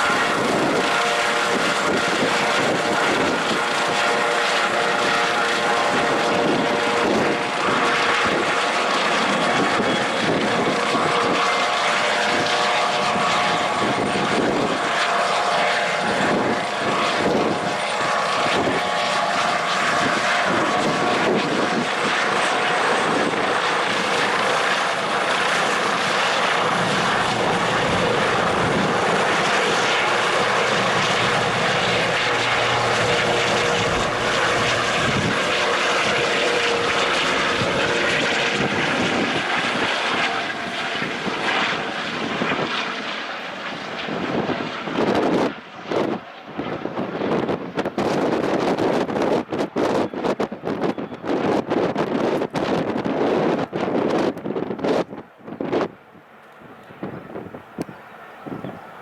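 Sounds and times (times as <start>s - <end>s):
helicopter rotor beat: 0.0s - 59.0s
helicopter turbine whine: 0.0s - 59.0s.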